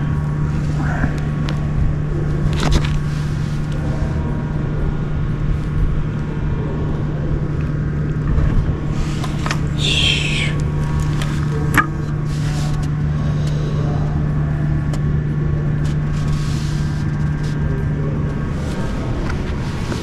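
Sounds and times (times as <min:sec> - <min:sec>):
engine idling hum: 0:00.0 - 0:20.0.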